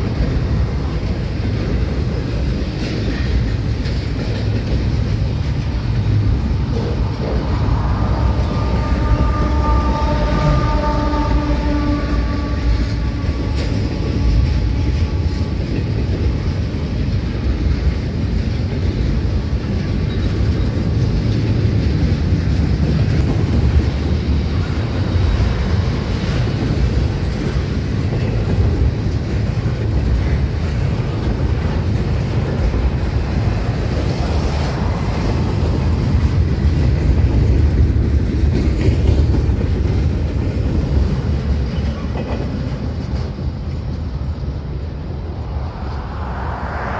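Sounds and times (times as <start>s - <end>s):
freight train wheels rumbling on rails: 0.0s - 46.9s.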